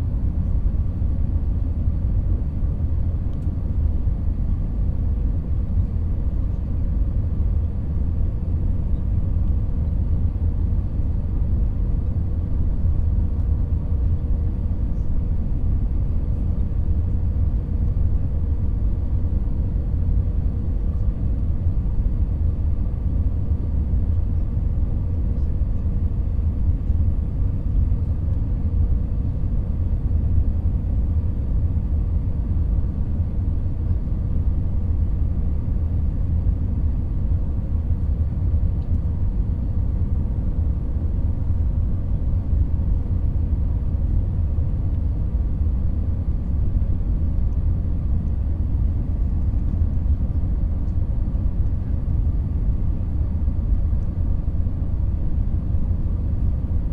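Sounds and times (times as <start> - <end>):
airliner cabin rumble: 0.0 - 56.9
faint steady whine: 0.0 - 56.9.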